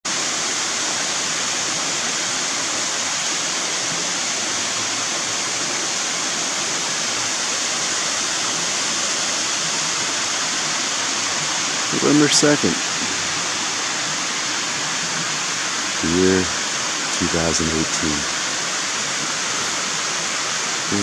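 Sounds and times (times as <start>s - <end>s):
water rushing over rocks: 0.1s - 21.0s.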